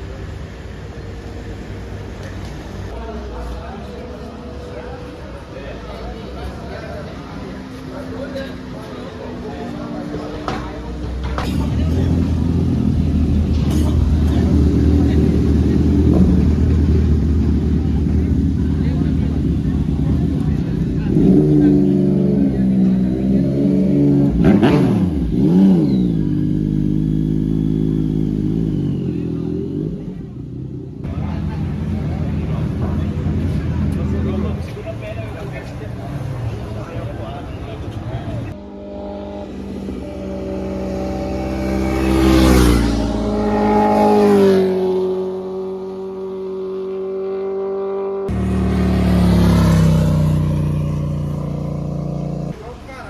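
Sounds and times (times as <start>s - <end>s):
motorcycle engine revving: 0.0s - 52.6s.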